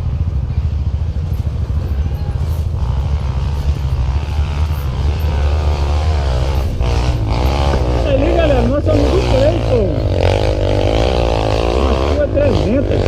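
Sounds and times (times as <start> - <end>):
bike engine revving: 0.0 - 13.0
dirt bike engine rumbling: 0.0 - 13.0.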